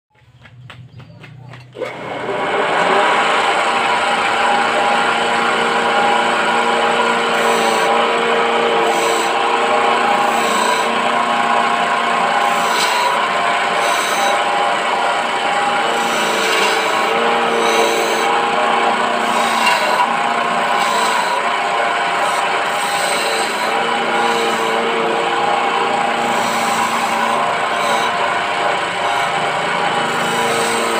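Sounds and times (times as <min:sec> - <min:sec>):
chisel scraping spinning wood: 0:01.5 - 0:30.9
lathe motor hum: 0:01.8 - 0:30.9.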